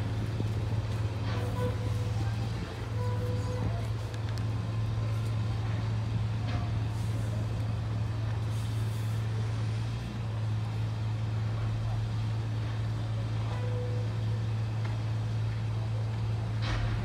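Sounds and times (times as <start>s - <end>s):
large engine droning: 0.0s - 17.0s.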